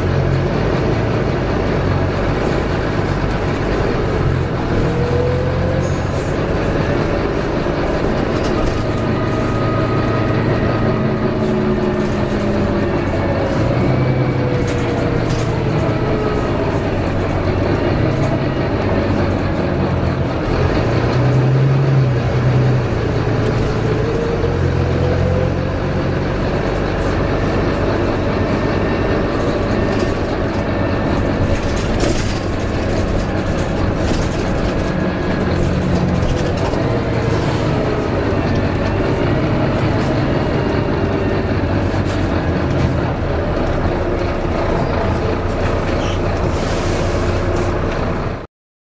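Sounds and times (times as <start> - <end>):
bus diesel engine running: 0.0 - 48.5.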